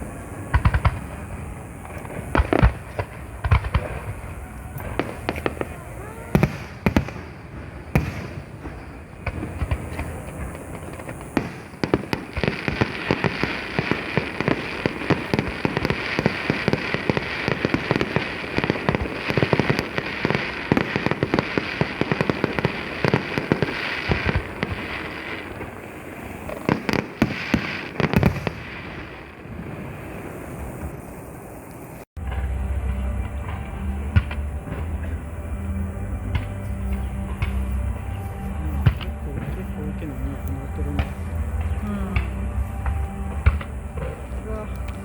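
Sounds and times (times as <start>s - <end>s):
firework bang: 0.0s - 25.8s, 26.5s - 31.0s, 32.2s - 35.2s, 38.8s - 44.4s
loud firework booms: 0.0s - 31.6s, 38.8s - 45.0s
rapid crackling fireworks: 0.0s - 45.0s.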